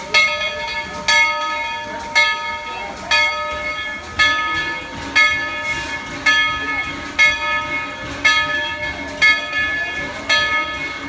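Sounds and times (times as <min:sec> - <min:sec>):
steam locomotive bell ringing: 0:00.0 - 0:11.0.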